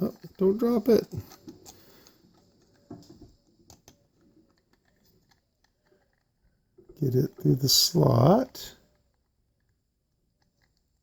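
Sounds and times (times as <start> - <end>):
plastic clicks and hand rustling: 0.0 - 7.6, 8.8 - 11.0.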